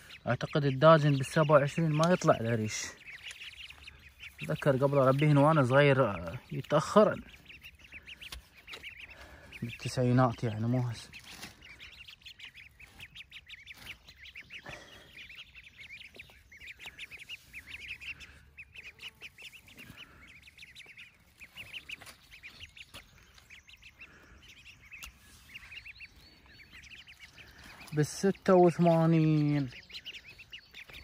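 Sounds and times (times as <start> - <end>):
ducklings peeping: 0.0 - 31.0.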